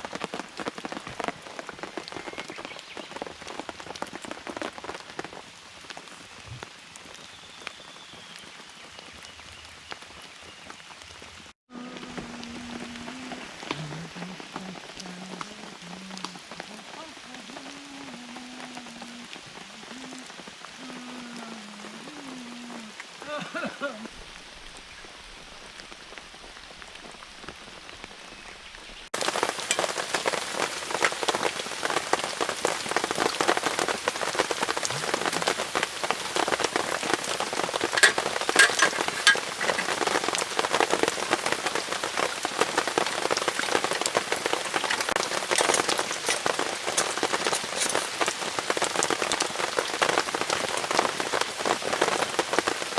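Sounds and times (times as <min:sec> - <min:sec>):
rain pattering on tent fabric: 0:00.0 - 0:52.9.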